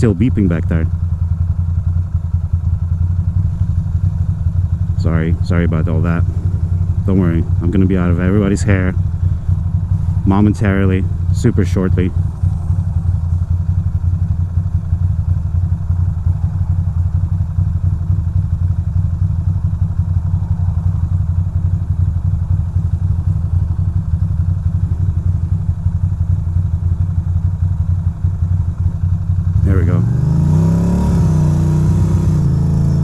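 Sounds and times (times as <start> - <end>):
motorcycle engine running at low revs: 0.0 - 33.0.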